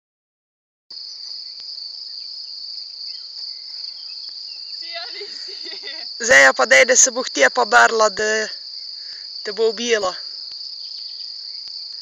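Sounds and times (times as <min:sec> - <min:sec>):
crickets chirping: 0:00.9 - 0:12.0.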